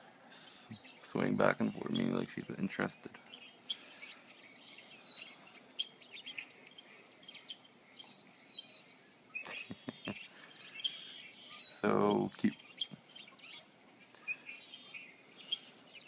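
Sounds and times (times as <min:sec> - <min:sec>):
recorded birdsong from small speaker: 0:00.0 - 0:16.0
downward-sweeping whistled bird calls: 0:00.4 - 0:16.0.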